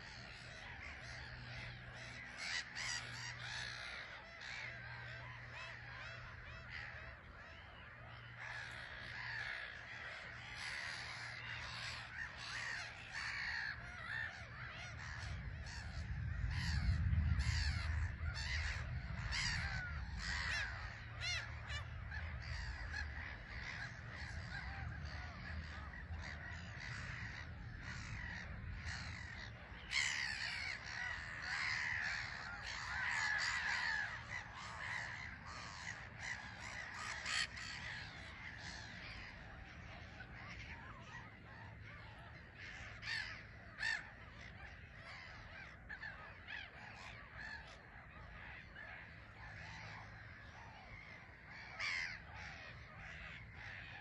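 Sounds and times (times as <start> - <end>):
gull colony calling: 0.0 - 54.0.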